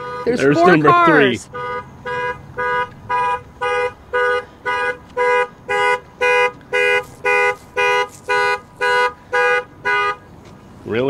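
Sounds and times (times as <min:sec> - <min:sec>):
car horn beeping: 0:00.0 - 0:10.3.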